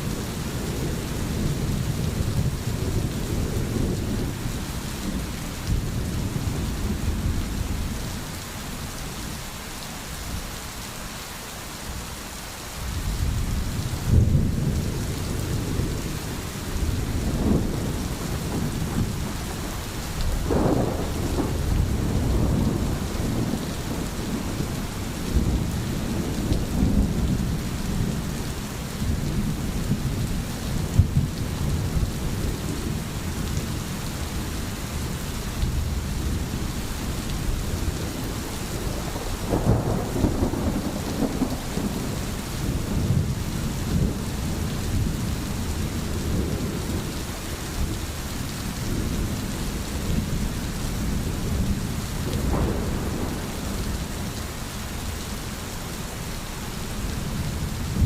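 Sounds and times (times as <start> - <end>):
low rumbles of thunder: 0.0 - 8.4, 13.0 - 55.3, 57.0 - 58.0
steady rain: 0.0 - 58.0.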